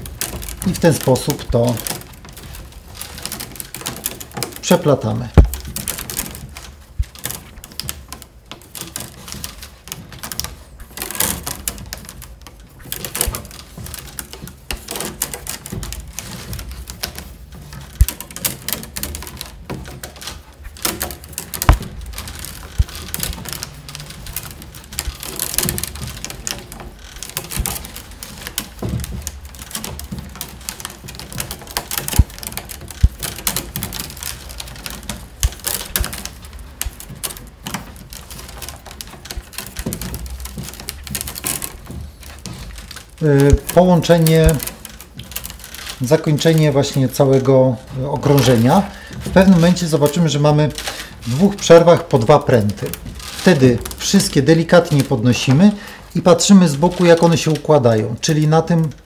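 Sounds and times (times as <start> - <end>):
willow rods clicking and creaking: 0.0 - 59.0.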